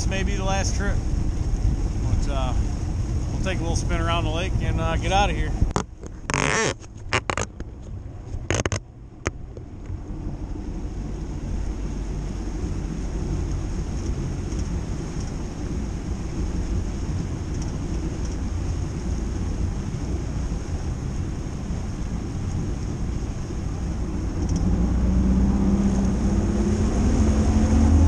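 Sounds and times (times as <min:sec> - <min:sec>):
boat motor rumbling: 0:00.0 - 0:28.0
water along the hull: 0:00.0 - 0:28.0
wind buffeting microphone: 0:00.0 - 0:28.0.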